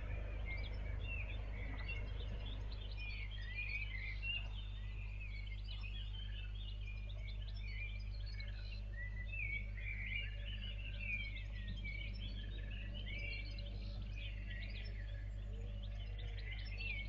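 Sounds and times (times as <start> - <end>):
small birds chirping and twittering: 0.0 - 17.0
steady low hum: 0.0 - 17.0.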